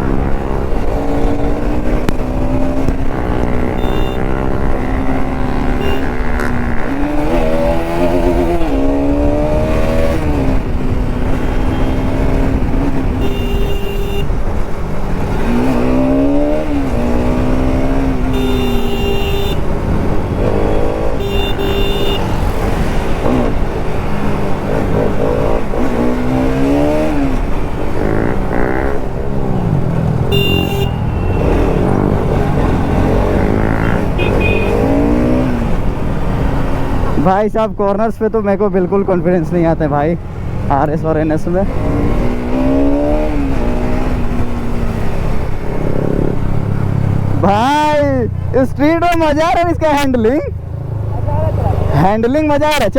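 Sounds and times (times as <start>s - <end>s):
motorcycle engine revving: 0.0s - 37.4s, 38.5s - 52.9s.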